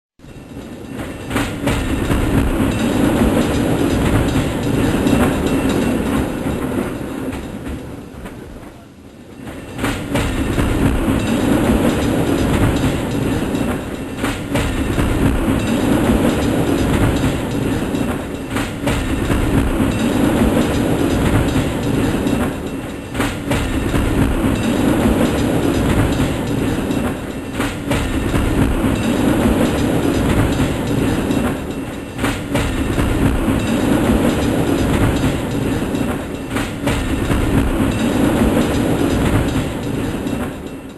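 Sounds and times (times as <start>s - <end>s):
cable car mechanical rumble: 0.3s - 40.9s
sharp clicks and clatters: 0.5s - 8.4s, 9.4s - 40.9s.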